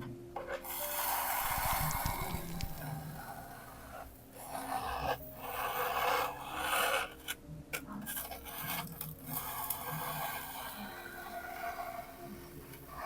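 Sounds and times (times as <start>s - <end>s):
soldering iron melting foam: 0.6s - 7.4s, 8.0s - 13.0s.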